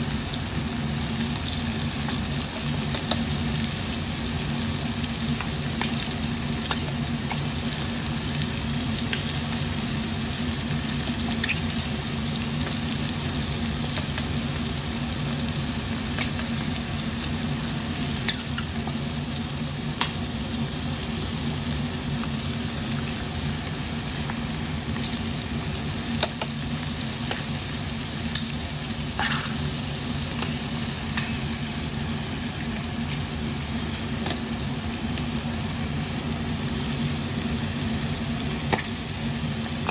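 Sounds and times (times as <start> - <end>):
deep-frying sizzle with pops: 0.0 - 39.9.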